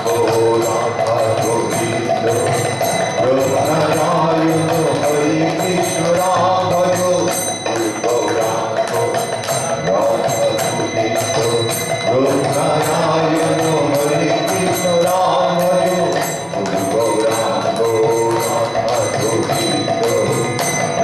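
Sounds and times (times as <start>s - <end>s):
group devotional singing: 0.0s - 20.5s
hand cymbals striking: 0.0s - 21.0s.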